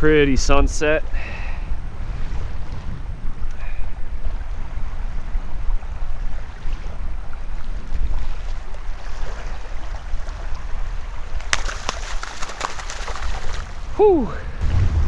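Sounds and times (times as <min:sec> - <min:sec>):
wind buffeting microphone: 0:00.0 - 0:15.0
waves lapping on shore: 0:00.2 - 0:15.0.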